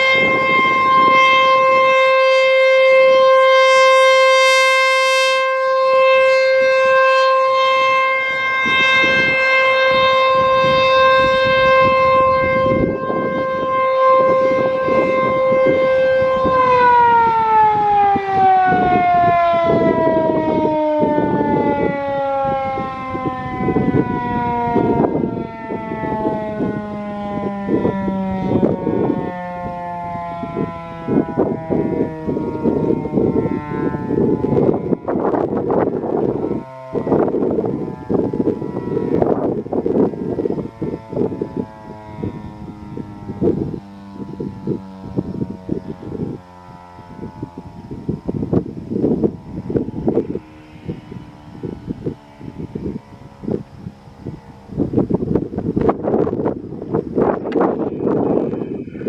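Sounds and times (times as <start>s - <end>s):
siren winding down: 0.0s - 59.0s
warning siren steady tone: 0.0s - 59.0s.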